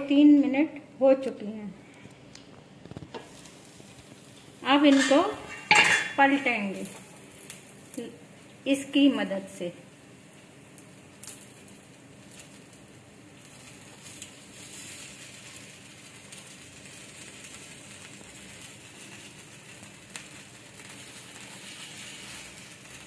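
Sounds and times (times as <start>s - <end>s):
batter sizzling in a pan: 2.6s - 23.0s.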